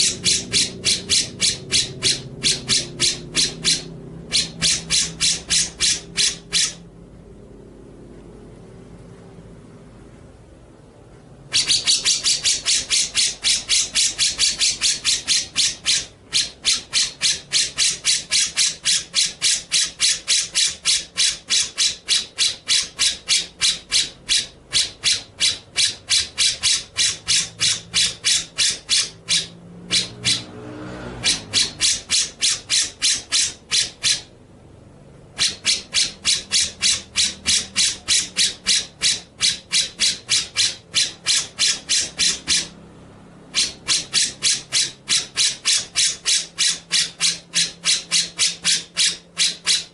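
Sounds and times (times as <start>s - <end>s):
songbird rasping notes: 0.0s - 6.9s, 11.3s - 49.9s.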